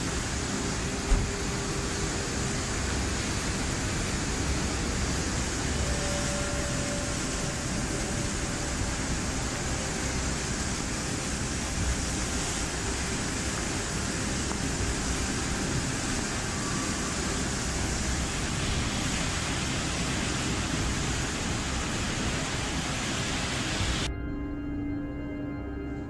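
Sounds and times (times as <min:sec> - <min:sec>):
rushing floodwater: 0:00.0 - 0:24.1.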